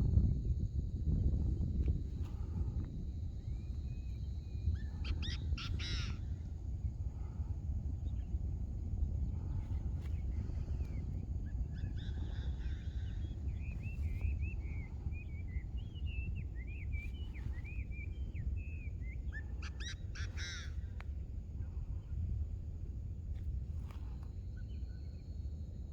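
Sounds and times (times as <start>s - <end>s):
steady low rumble: 0.0s - 25.9s.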